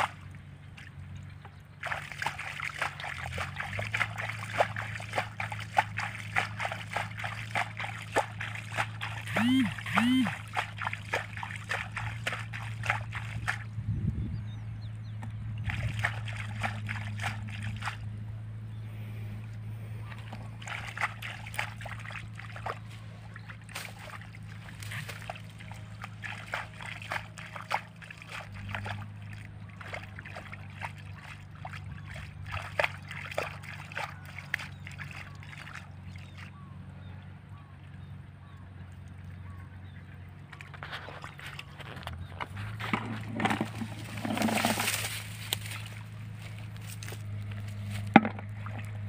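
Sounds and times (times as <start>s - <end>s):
hands splashing in muddy water: 0.0s - 13.8s, 15.5s - 18.2s, 19.9s - 37.1s, 39.0s - 49.0s
steady low hum: 0.0s - 49.0s.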